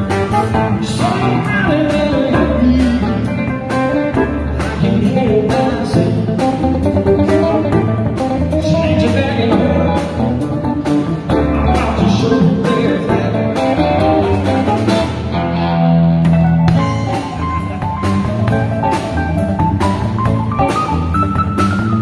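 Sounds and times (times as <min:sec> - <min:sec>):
drum kit beat: 0:00.0 - 0:15.4, 0:16.2 - 0:22.0
electric bass: 0:00.0 - 0:22.0
electric guitar: 0:00.0 - 0:22.0
keyboard: 0:00.0 - 0:22.0.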